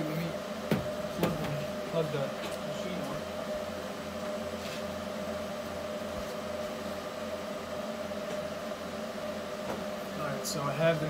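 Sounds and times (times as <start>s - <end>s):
workshop equipment humming: 0.0s - 11.0s.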